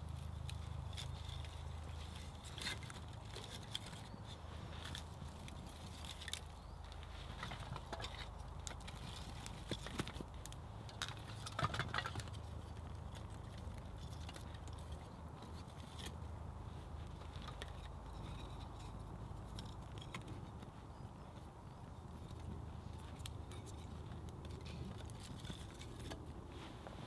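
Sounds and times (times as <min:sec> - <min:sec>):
wooden sticks knocking and scraping: 0:00.0 - 0:21.5, 0:22.1 - 0:27.0.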